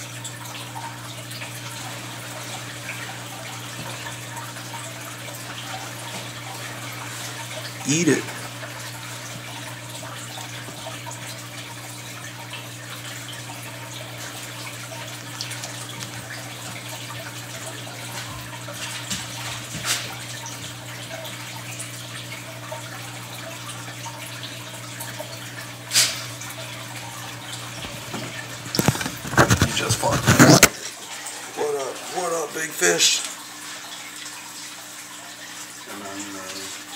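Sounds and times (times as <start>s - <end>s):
trickling water: 0.0s - 36.9s.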